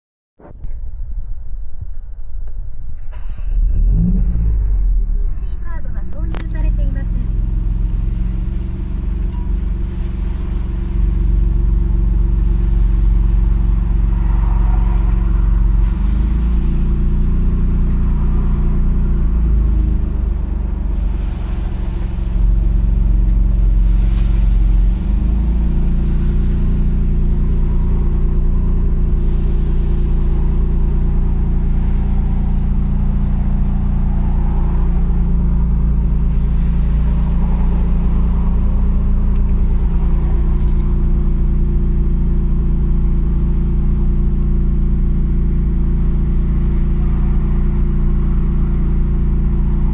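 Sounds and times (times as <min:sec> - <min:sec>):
car engine idling: 0:00.5 - 0:49.9.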